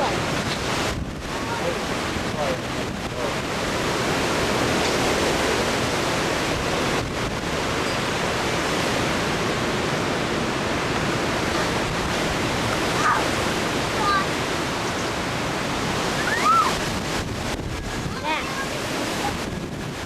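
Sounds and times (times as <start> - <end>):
strong wind gusting through trees: 0.0 - 20.0
wind buffeting microphone: 0.0 - 20.0.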